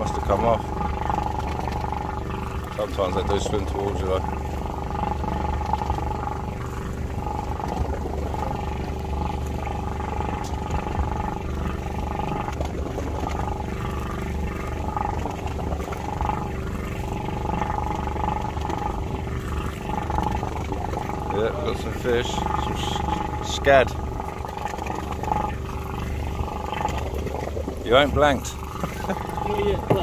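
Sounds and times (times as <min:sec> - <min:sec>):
boat engine rumble: 0:00.0 - 0:30.0.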